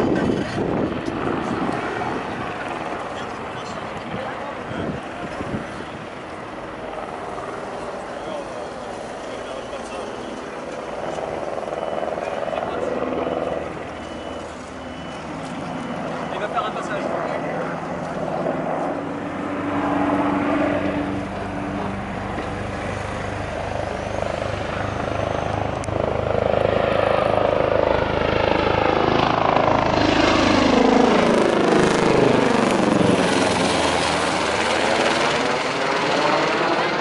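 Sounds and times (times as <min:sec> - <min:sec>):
helicopter flying past: 0:00.0 - 0:37.0.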